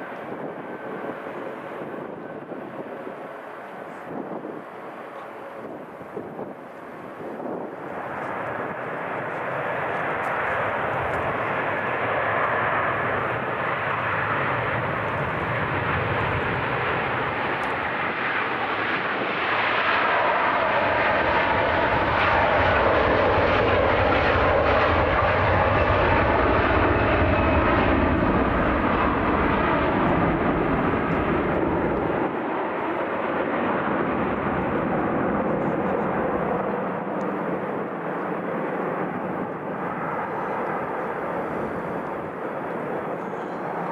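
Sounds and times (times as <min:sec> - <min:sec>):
airliner engines roaring: 0:00.0 - 0:43.9.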